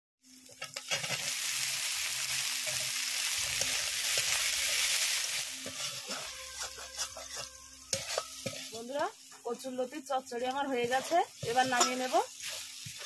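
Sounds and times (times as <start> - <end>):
hot oil sizzling in a wok: 0.2 - 13.0
metal spatula scraping a pan: 0.5 - 1.4, 2.4 - 9.4, 10.4 - 13.0.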